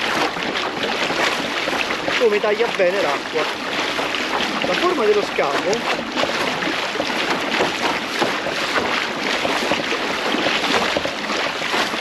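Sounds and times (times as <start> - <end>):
small water splashes: 0.0 - 12.0
water rushing along kayak hull: 0.0 - 12.0.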